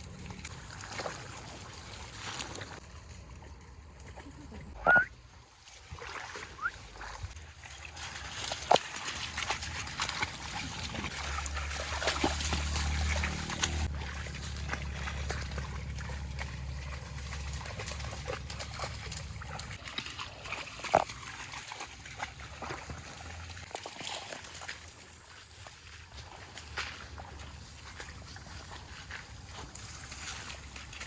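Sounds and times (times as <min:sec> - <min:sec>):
water sloshing and splashing: 0:00.0 - 0:04.6, 0:05.2 - 0:31.0.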